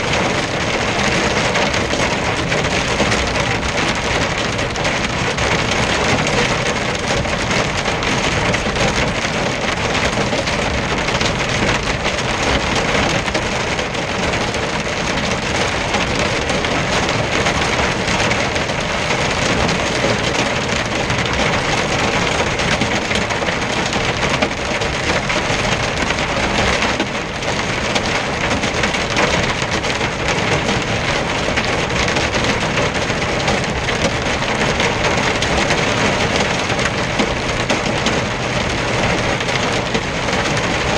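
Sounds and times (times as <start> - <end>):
hail and rain drumming on windshield: 0.0 - 40.9.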